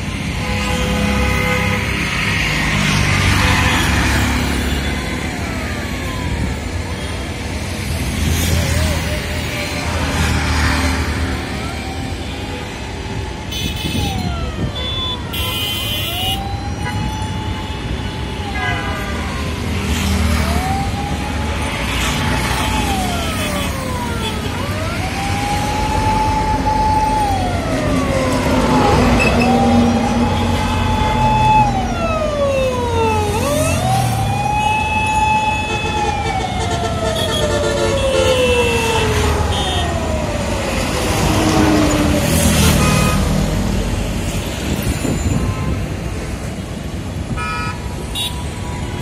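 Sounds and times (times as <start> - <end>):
busy street traffic: 0.0 - 49.0
siren wailing: 2.4 - 9.1, 10.0 - 43.8.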